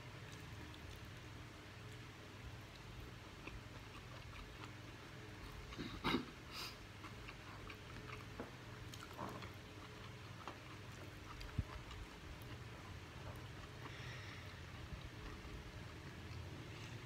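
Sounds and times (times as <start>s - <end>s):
low steady hum: 0.0s - 17.0s
people chewing: 0.2s - 17.0s.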